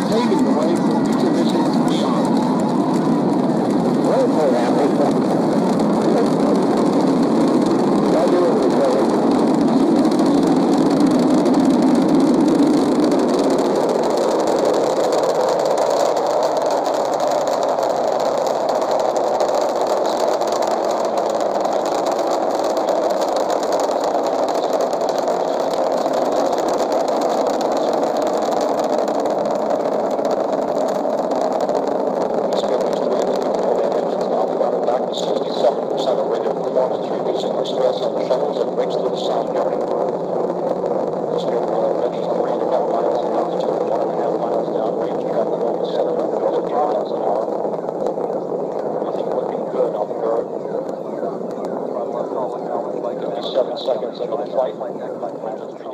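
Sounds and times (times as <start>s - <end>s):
rocket engines roaring: 0.0s - 55.9s.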